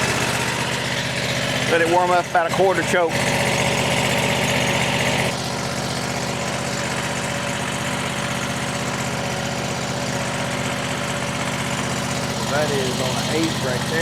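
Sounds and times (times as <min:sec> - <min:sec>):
gasoline engine idling: 0:00.0 - 0:14.0.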